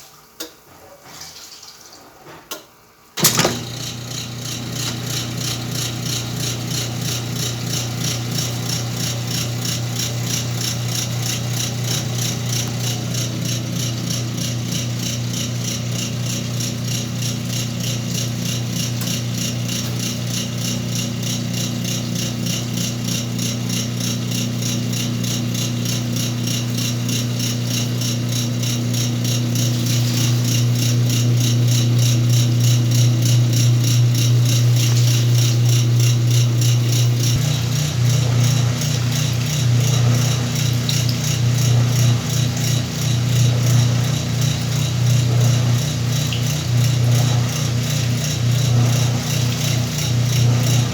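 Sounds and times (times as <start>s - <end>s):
washing machine motor hum: 3.0s - 50.9s
washing machine rattling: 3.2s - 50.9s.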